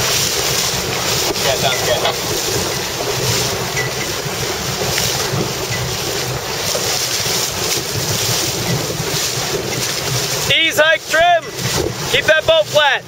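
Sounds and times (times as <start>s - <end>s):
waves rushing against boat: 0.0s - 13.0s
wind buffeting microphone: 0.0s - 13.0s.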